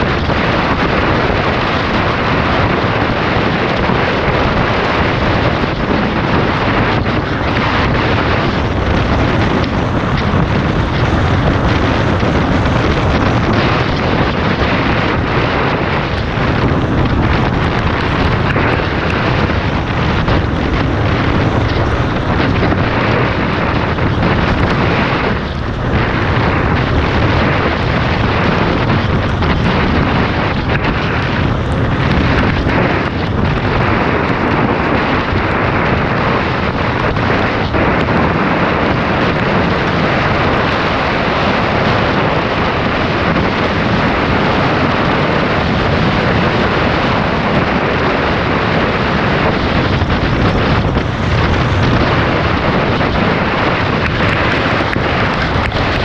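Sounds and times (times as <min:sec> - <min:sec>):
dirt bike engine running: 0:00.0 - 0:56.0
wind buffeting microphone: 0:00.0 - 0:56.0.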